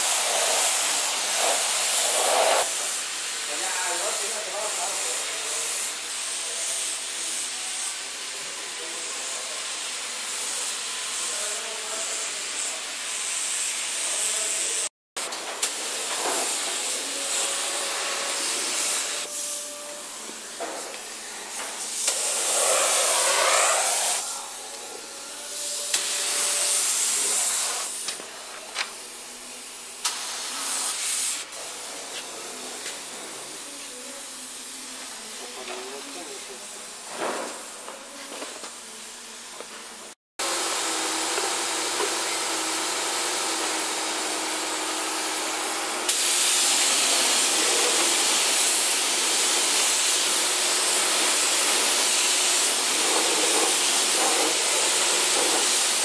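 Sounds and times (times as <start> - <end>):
spray gun hissing: 0.0 - 14.8, 15.6 - 20.1, 21.0 - 24.7, 25.3 - 28.1, 30.0 - 36.7, 40.4 - 56.0.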